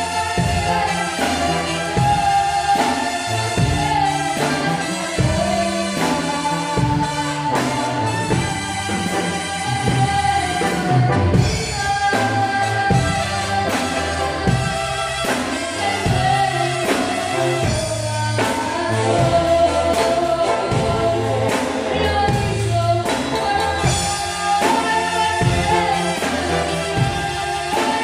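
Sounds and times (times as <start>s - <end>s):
bass: 0.0s - 28.0s
boy singing into microphone: 0.0s - 28.0s
drum kit beat: 0.0s - 28.0s.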